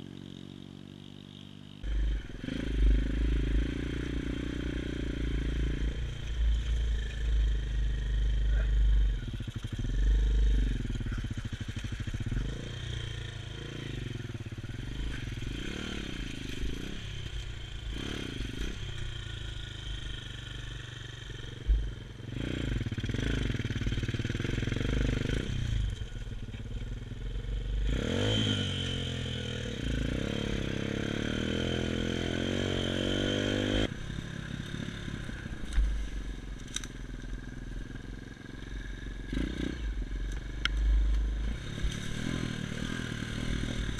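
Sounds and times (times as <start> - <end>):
motorbike engine revving: 1.7 - 43.9.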